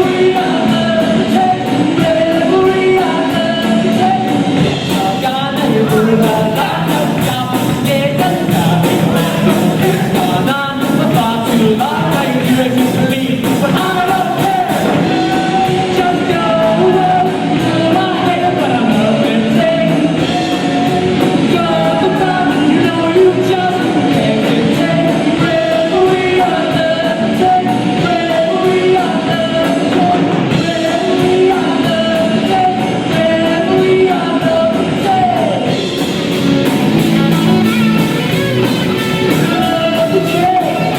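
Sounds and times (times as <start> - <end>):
lead singer singing: 0.0 - 40.9
rock band playing: 0.0 - 40.9.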